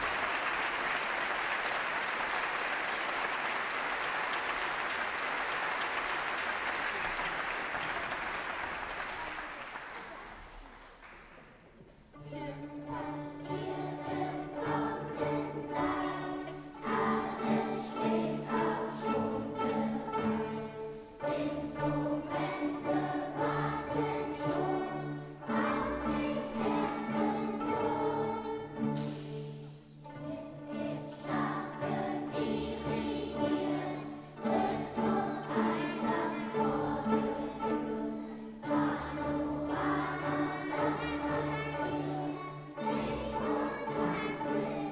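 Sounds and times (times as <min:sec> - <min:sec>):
string orchestra: 0:00.0 - 0:10.8, 0:11.6 - 0:44.9
children's choir singing: 0:00.0 - 0:44.9.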